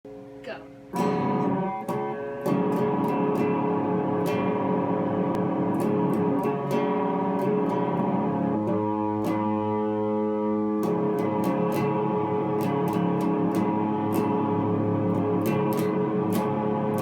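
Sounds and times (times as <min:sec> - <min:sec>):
electric guitar music: 0:00.1 - 0:17.0.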